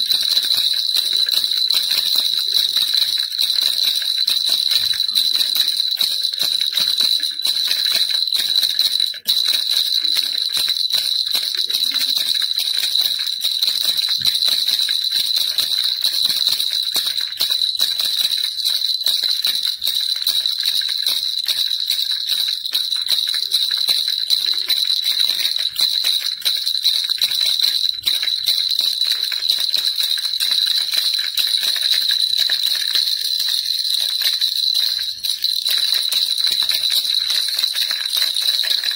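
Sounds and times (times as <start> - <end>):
baby rattle jingling: 0.0 - 38.9.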